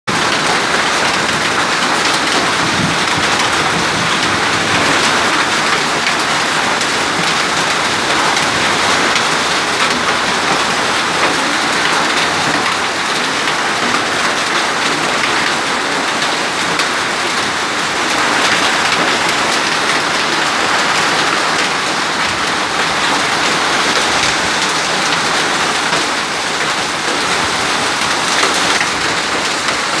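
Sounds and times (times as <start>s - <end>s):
hail clattering: 0.1s - 30.0s
heavy rain: 0.1s - 30.0s.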